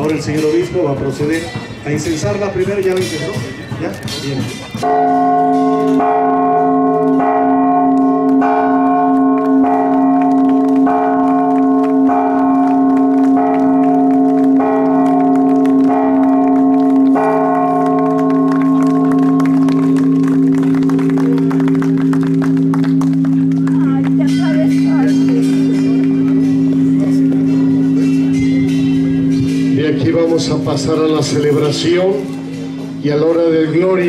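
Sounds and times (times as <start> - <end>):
large church bell ringing: 0.0 - 34.0.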